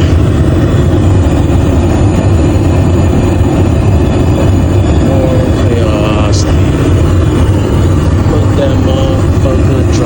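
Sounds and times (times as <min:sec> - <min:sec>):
jet airliner cabin rumble: 0:00.0 - 0:10.0.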